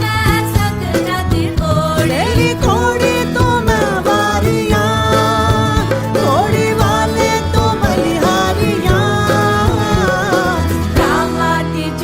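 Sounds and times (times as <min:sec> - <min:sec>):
steady drum beat: 0:00.0 - 0:11.6
folk-pop song: 0:00.0 - 0:12.0
sliding melodic line: 0:01.0 - 0:11.6.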